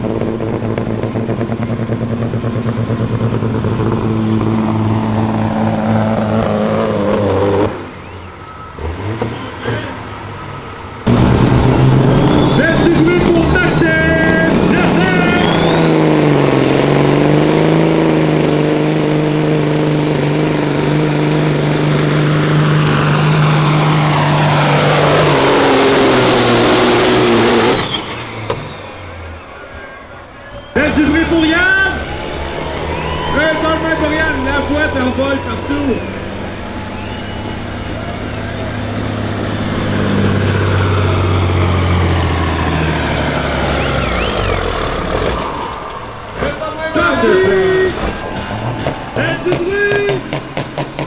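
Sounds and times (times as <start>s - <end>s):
truck engine at full throttle: 0.0s - 51.0s
high whistle: 3.6s - 51.0s.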